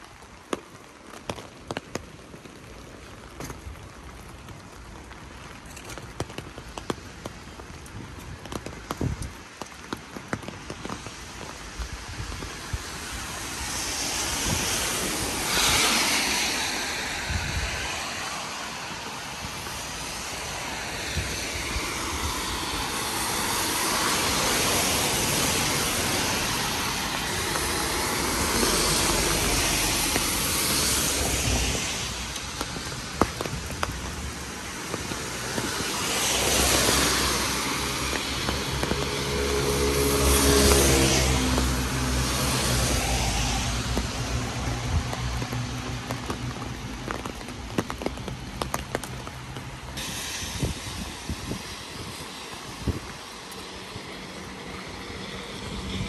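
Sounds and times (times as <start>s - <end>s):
raindrops tapping: 0.0s - 56.0s
tyres hissing on wet road: 0.0s - 56.0s.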